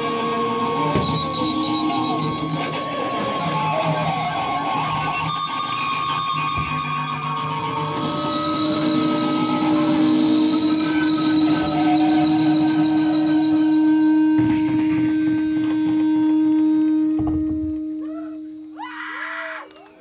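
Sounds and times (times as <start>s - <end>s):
guitar amplifier feedback drone: 0.0s - 19.2s
high whine: 0.0s - 19.5s.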